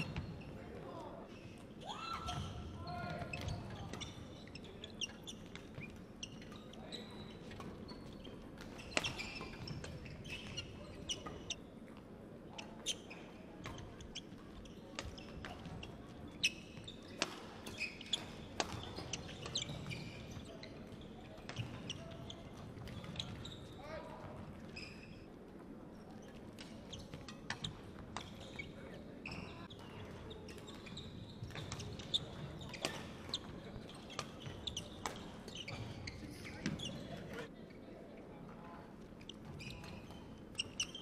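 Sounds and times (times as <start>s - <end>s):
shoe squeaks: 0.0s - 11.8s, 12.6s - 24.0s, 24.7s - 25.3s, 26.2s - 37.5s, 39.2s - 41.0s.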